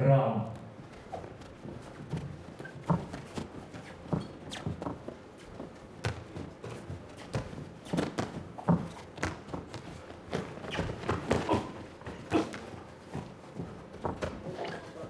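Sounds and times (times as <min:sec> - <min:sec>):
feet shuffling on canvas: 0:00.7 - 0:15.0.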